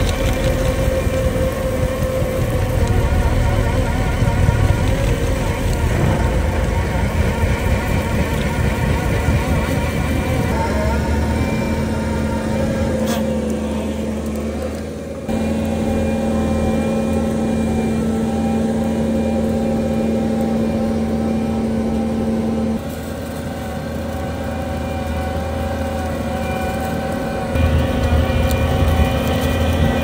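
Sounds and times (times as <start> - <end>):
diesel engine running under load: 0.0 - 30.0.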